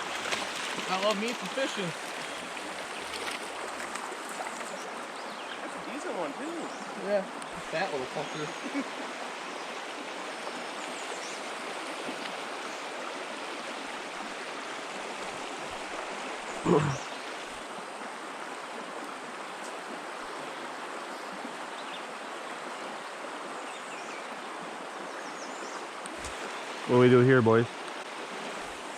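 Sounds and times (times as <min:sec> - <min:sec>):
creek water rushing: 0:00.0 - 0:28.9.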